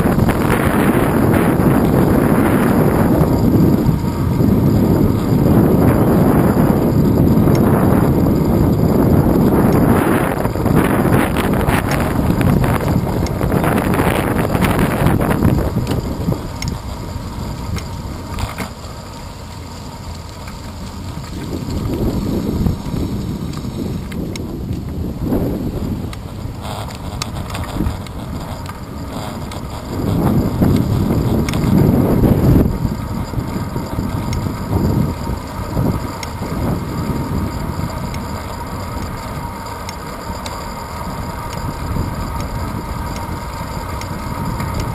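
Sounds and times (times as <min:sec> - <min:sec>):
wind buffeting microphone: 0:00.0 - 0:18.7, 0:20.7 - 0:44.9
light bicycle clicks: 0:00.0 - 0:44.9.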